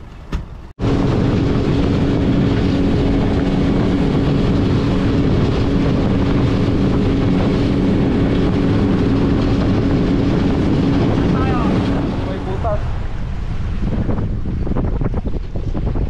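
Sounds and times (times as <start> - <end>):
spray rushing off hull: 0.8 - 14.7
motorboat engine running: 0.8 - 16.0.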